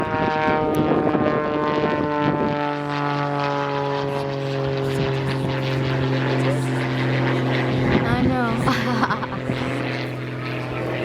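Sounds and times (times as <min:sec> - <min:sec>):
airplane engine droning overhead: 0:00.0 - 0:11.0.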